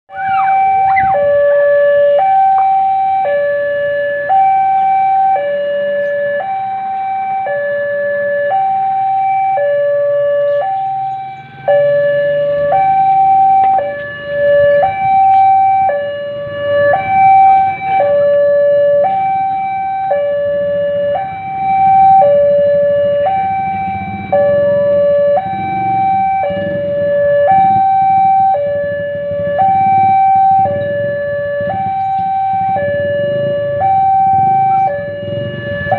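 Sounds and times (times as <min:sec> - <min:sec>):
level crossing two-tone alarm: 0:00.1 - 0:35.9.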